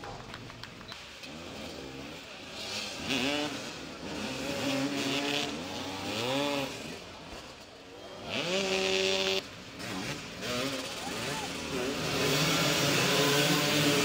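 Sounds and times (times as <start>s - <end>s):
motorcycles revving: 0.2s - 14.0s.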